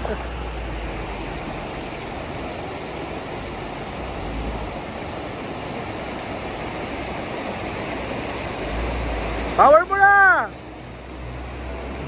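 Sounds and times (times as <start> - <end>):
vehicle driving off-road rumble: 0.0 - 12.0.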